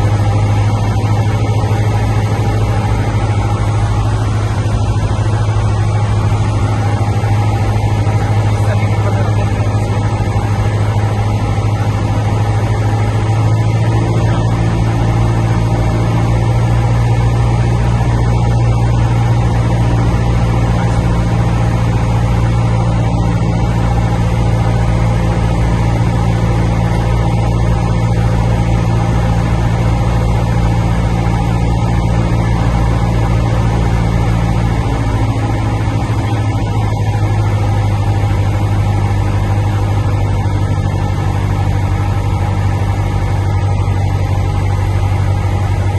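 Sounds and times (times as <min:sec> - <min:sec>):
propeller plane engine drone: 0:00.0 - 0:45.9.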